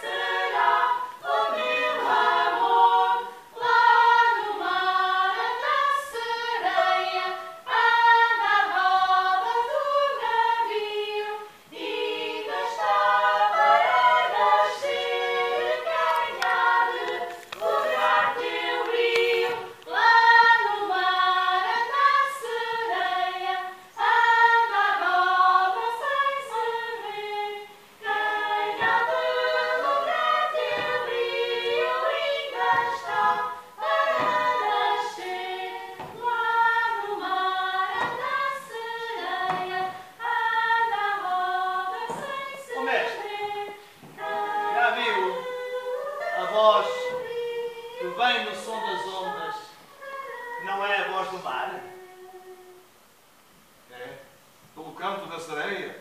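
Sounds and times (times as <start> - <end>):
group of voices singing: 0.0 - 52.9.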